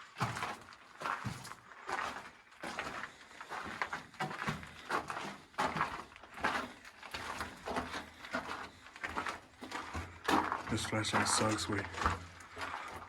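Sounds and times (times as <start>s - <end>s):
footsteps on gravel: 0.2s - 13.0s.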